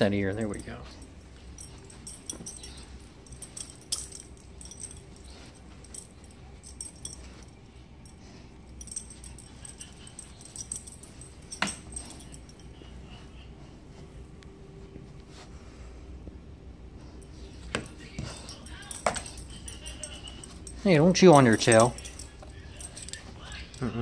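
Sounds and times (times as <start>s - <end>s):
faint metallic clinks: 0.0s - 15.4s, 17.0s - 24.0s.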